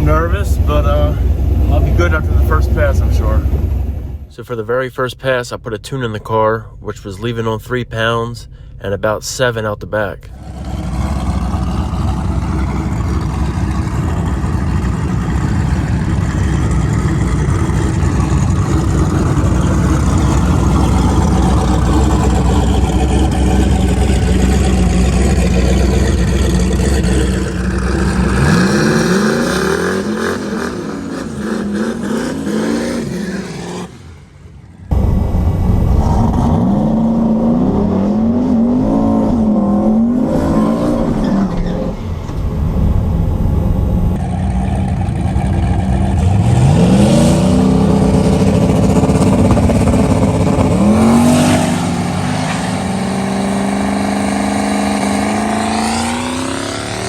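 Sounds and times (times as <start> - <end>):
car engine revving: 0.0 - 4.6, 10.3 - 57.0.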